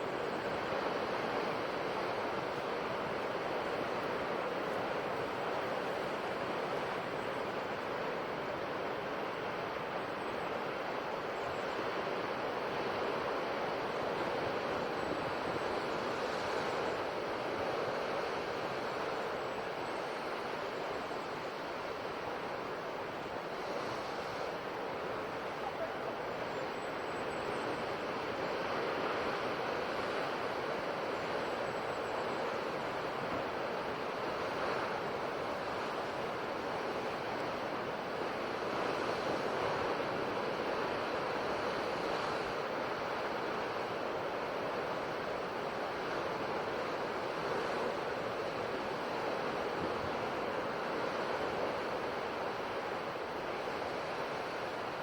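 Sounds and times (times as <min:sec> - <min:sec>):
ocean surf washing on shore: 0:00.0 - 0:55.0.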